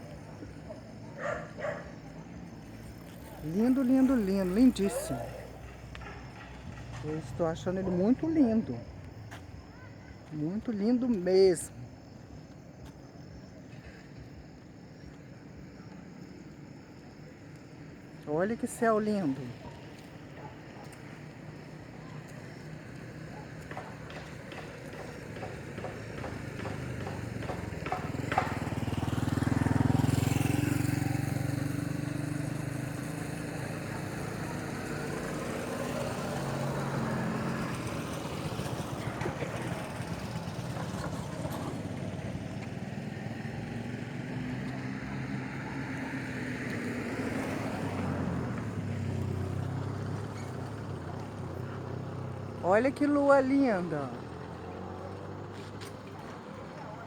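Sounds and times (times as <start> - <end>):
vehicle passing by: 0.0 - 12.5, 17.2 - 57.0
traffic engine noise: 0.0 - 57.0.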